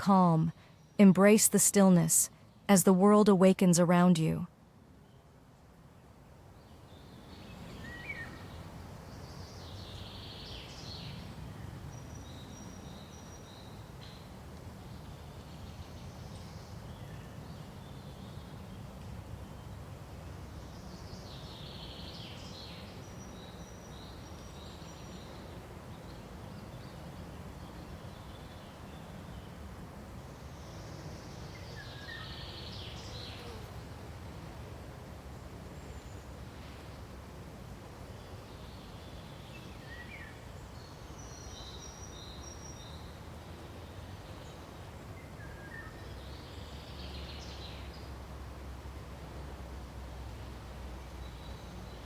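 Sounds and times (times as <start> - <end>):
wind rustling pine trees: 4.5 - 52.0.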